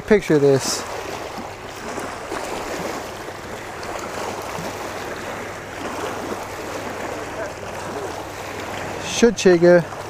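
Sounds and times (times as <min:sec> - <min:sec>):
waves lapping on pebbly shore: 0:00.0 - 0:10.0.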